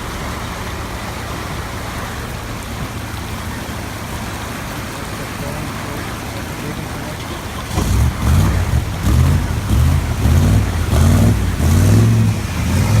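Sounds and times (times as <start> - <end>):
engine surging: 0.0 - 13.0.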